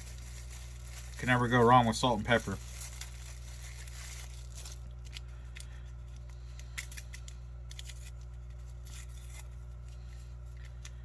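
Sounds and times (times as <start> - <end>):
small packets clicking and rustling: 0.0 - 11.0
steady low hum: 0.0 - 11.0.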